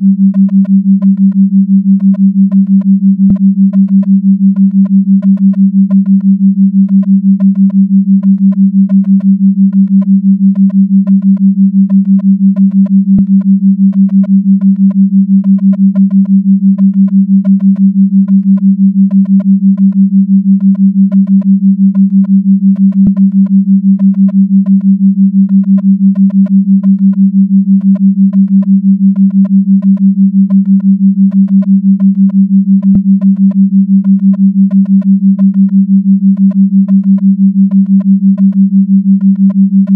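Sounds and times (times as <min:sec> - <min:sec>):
pulsing low electronic tone: 0:00.0 - 0:39.9.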